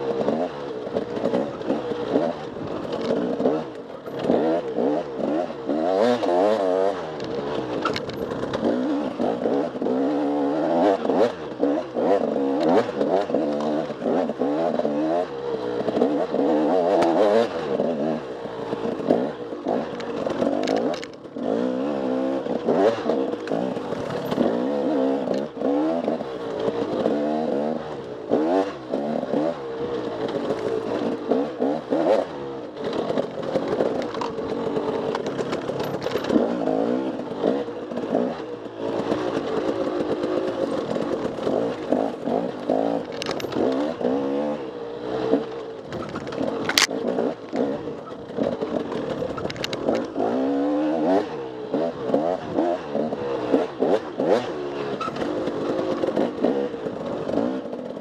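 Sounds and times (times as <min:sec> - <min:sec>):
clatters: 0:00.0 - 0:58.0
motorcycle engine revving: 0:00.0 - 0:58.0.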